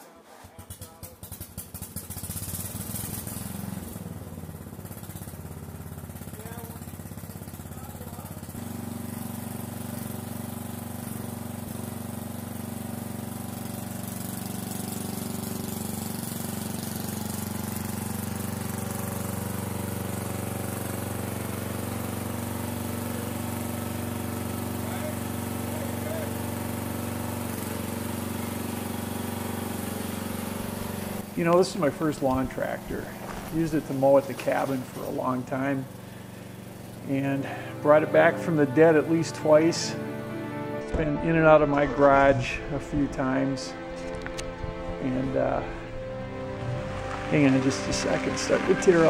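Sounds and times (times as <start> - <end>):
lawn tractor engine running: 0.4 - 49.0.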